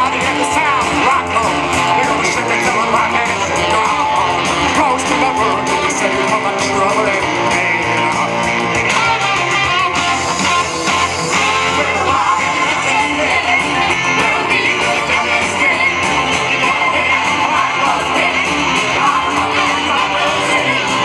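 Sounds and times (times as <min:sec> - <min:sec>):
rock music with strummed guitar: 0:00.0 - 0:21.0.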